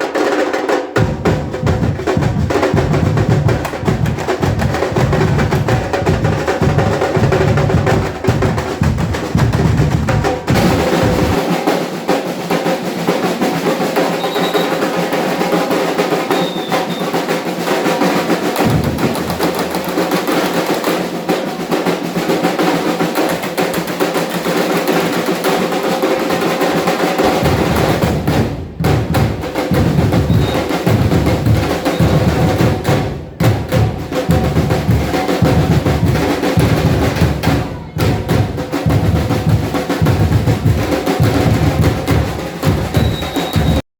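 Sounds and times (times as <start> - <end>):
snare and high drums rattling: 0.0 - 43.8.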